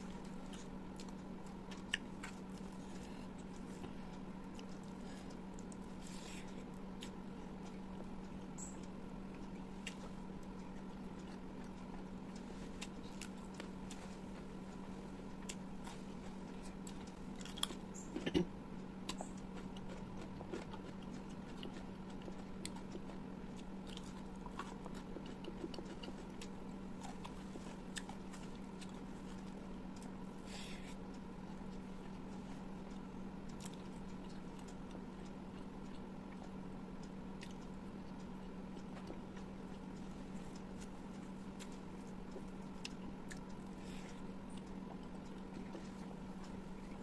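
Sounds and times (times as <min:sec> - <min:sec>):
steady low hum: 0:00.0 - 0:47.0
person chewing and biting: 0:00.2 - 0:08.2, 0:09.3 - 0:36.6, 0:37.4 - 0:47.0.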